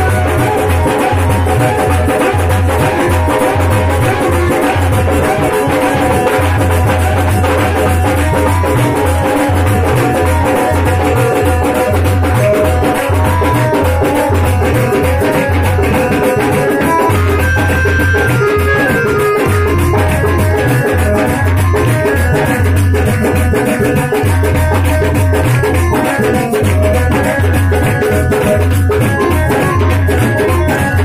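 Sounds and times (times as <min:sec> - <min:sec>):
dholak drums beating: 0:00.0 - 0:31.0
keyboard melody: 0:00.0 - 0:31.0.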